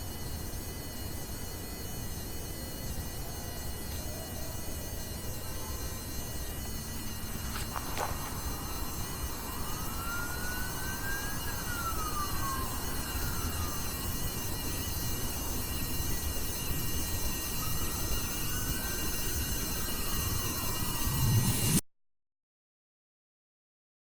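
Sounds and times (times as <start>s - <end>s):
background hiss and hum: 0.0s - 21.8s
faint siren wailing: 0.3s - 21.8s.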